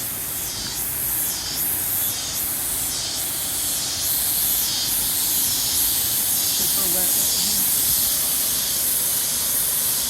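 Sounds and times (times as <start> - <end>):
cicadas buzzing in chorus: 0.0 - 10.0
steady low hiss: 0.0 - 10.0.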